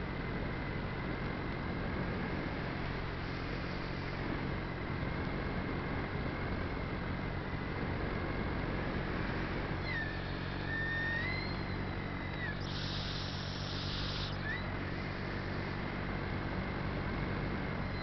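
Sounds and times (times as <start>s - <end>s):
aircraft motor running: 0.0s - 18.0s.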